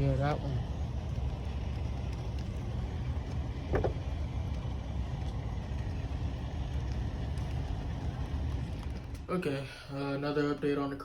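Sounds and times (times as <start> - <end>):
car rumbling: 0.0 - 9.2.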